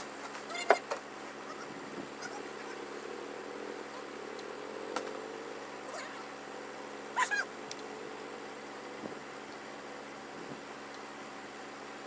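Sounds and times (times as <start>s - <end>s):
truck engine running: 1.0s - 12.0s.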